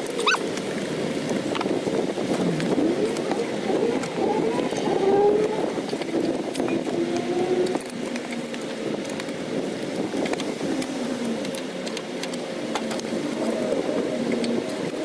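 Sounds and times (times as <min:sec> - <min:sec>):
tire irons clicking on metal rim: 0:00.0 - 0:15.0.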